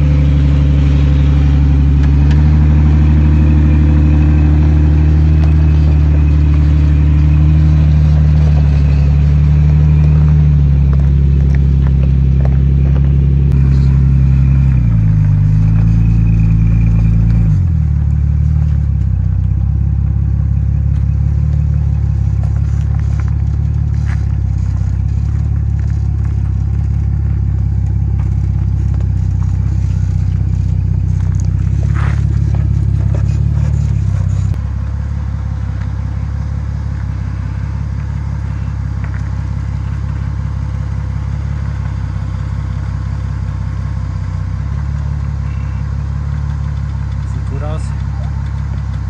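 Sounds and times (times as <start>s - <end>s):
engine running low and steady: 0.0s - 49.0s
tyres crunching over gravel: 0.0s - 49.0s.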